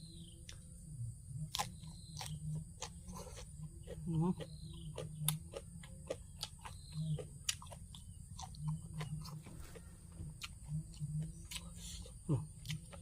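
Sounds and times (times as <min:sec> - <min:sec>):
low hum: 0:00.0 - 0:13.0
person chewing and smacking: 0:01.4 - 0:13.0.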